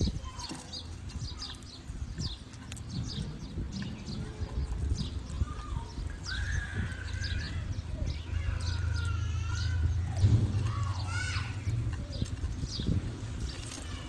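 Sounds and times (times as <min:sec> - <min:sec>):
drawn-out wavering bird calls: 0:00.0 - 0:14.0
small birds chirping: 0:00.0 - 0:14.0
steady low rumble: 0:00.0 - 0:14.0.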